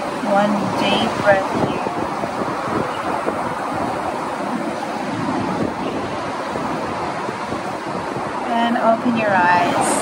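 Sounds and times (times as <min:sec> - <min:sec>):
wind rushing on microphone: 0:00.0 - 0:10.0.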